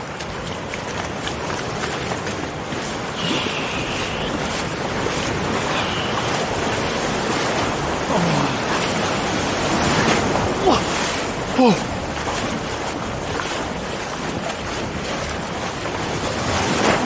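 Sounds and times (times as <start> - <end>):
small waves washing over sand: 0.0 - 17.0.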